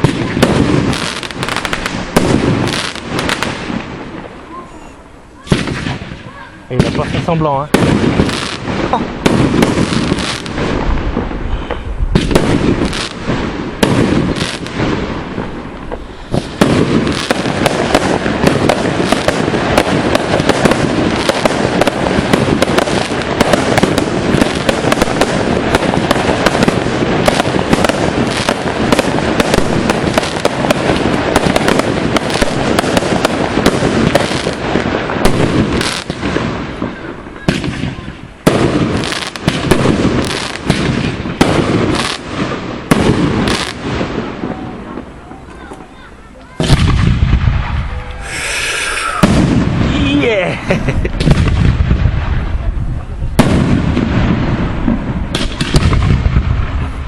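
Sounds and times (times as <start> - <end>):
fireworks bursts and crackling: 0.0 - 57.0.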